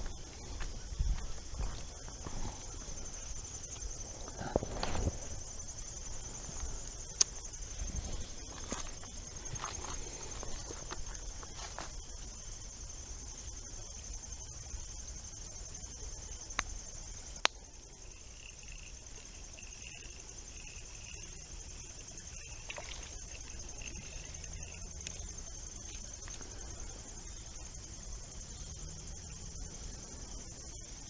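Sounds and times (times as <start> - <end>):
insects chorus: 0.0 - 31.0.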